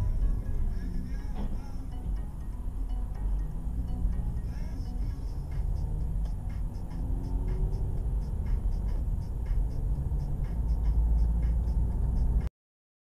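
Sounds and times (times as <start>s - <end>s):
car engine accelerating: 0.0s - 12.5s.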